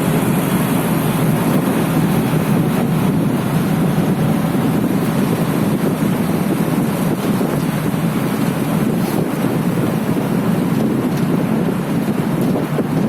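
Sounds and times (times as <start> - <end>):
loud low rumbling noise: 0.0 - 13.0.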